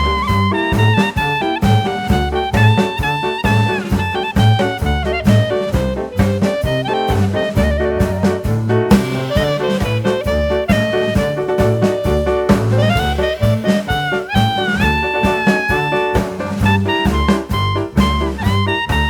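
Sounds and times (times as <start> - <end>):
upbeat jazz with brass: 0.0 - 19.0.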